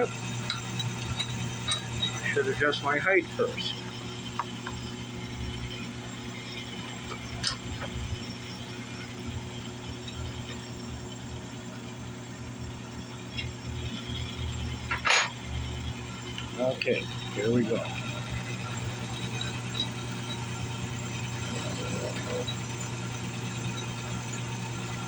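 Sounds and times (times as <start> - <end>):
drill press motor humming: 0.0 - 25.0.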